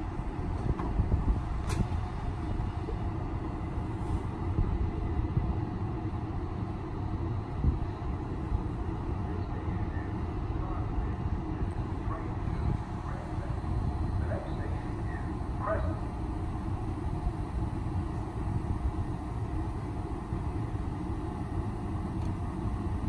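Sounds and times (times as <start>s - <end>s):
train equipment low rumble: 0.0s - 23.0s.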